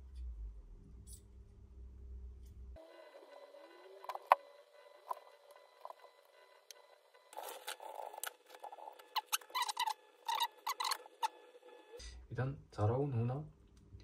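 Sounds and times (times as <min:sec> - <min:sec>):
low hum: 0:00.0 - 0:12.7
faint steady whine: 0:00.0 - 0:14.0.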